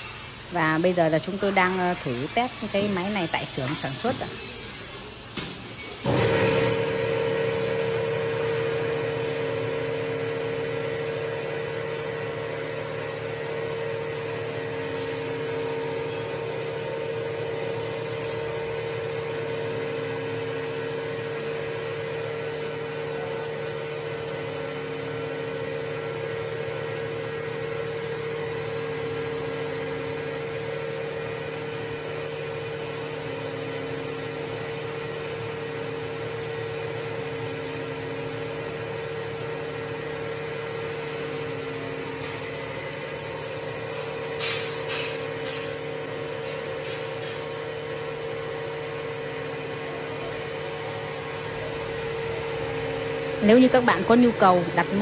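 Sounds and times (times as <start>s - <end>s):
rice grinder whining: 0.0s - 55.0s.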